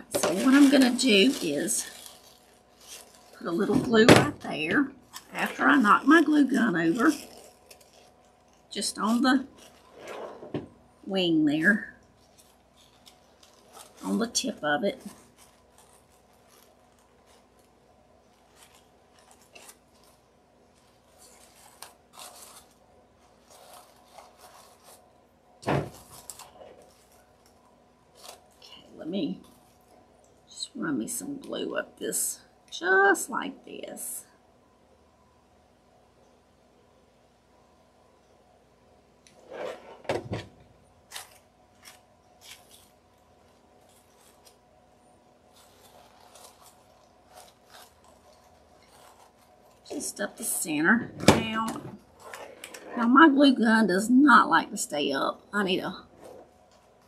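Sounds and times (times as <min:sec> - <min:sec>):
paper filters crinkling: 0:00.0 - 0:32.1, 0:39.3 - 0:53.4, 0:55.2 - 0:57.0.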